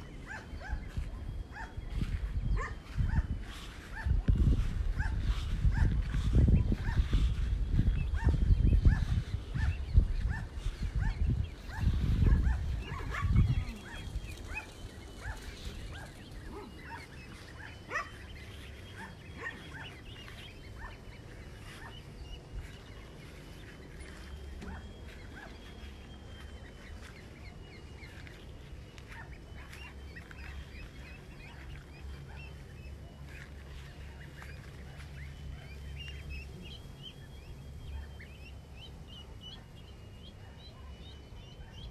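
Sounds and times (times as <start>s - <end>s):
low rumble on microphone: 0.0s - 41.9s
poultry calling: 0.0s - 41.9s.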